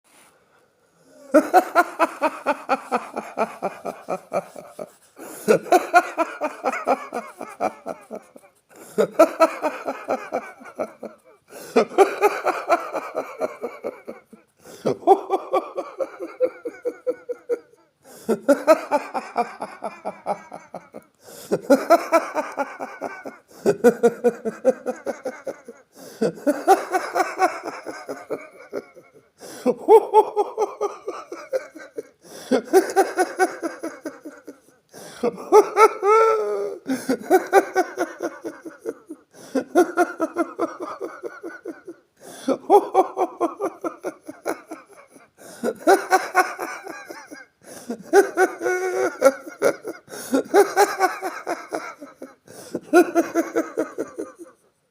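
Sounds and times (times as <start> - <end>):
person laughing heartily: 1.1 - 54.7.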